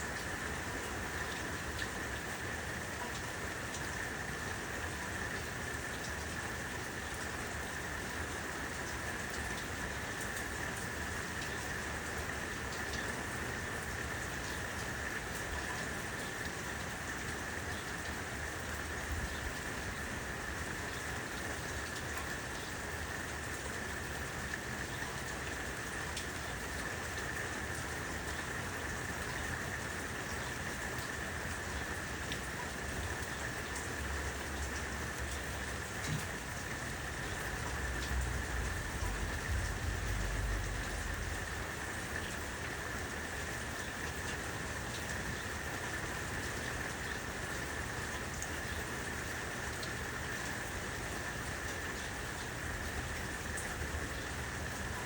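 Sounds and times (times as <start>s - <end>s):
steady rain falling: 0.0s - 55.0s
raindrops ticking sharply: 7.1s - 55.0s.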